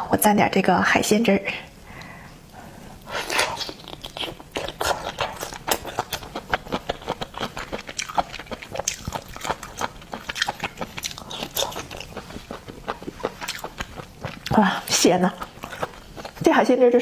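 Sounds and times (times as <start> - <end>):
chewing seafood: 2.0 - 16.6.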